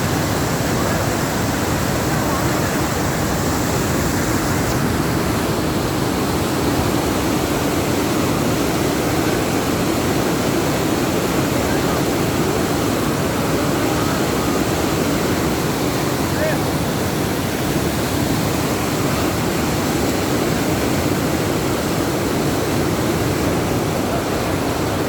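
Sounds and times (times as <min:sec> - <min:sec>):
fast-flowing water rushing: 0:00.0 - 0:25.0.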